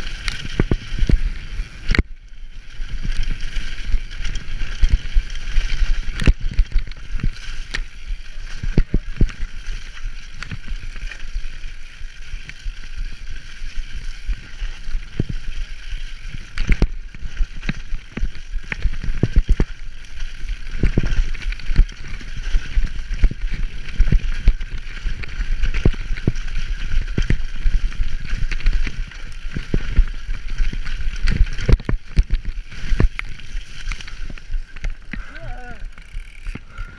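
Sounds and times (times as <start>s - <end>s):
bike knocking and rattling: 0.0s - 36.9s
mountain bike rushing downhill: 0.0s - 36.9s.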